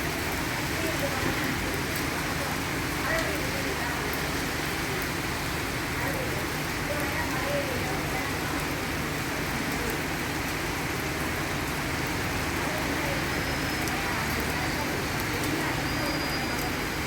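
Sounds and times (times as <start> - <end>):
steady rain pattering: 0.0 - 17.0.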